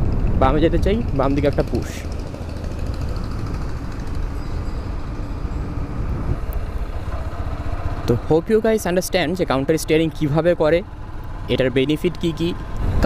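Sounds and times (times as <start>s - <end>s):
motorcycle engine rumble: 0.0s - 13.0s
road and wind noise: 0.0s - 13.0s.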